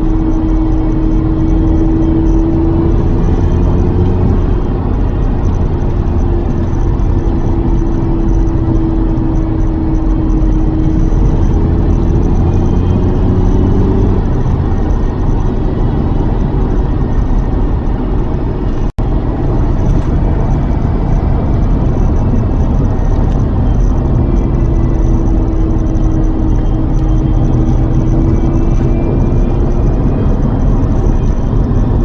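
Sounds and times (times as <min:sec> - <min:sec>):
car engine driving: 0:00.0 - 0:32.0
road noise: 0:00.0 - 0:32.0.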